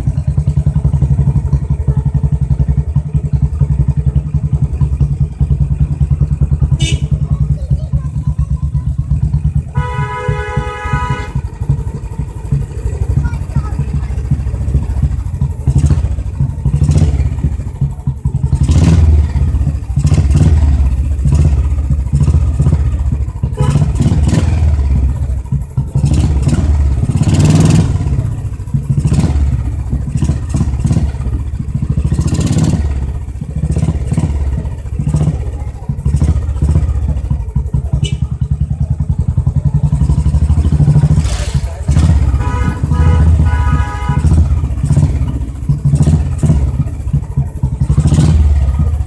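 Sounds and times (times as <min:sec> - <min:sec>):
motorcycle engine with loud exhaust: 0:00.0 - 0:49.0.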